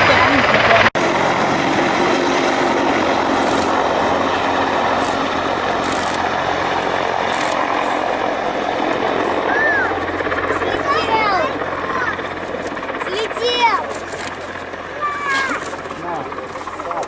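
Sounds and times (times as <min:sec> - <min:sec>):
helicopter engines and rotor: 0:00.0 - 0:17.0.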